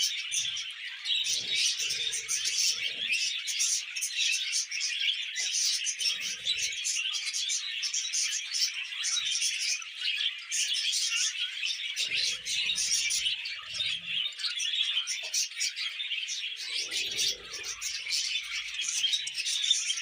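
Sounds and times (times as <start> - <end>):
budgerigars warbling and chirping: 0.0 - 20.0.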